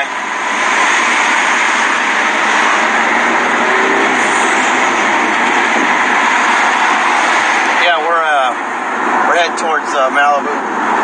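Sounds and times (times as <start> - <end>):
road noise inside car: 0.0 - 11.0
wind rushing past car: 0.1 - 9.5, 10.2 - 11.0.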